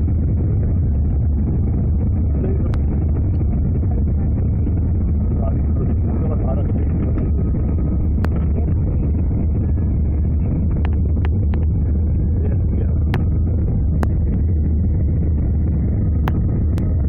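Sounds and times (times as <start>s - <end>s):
muffled airplane cabin rumble: 0.0s - 17.0s.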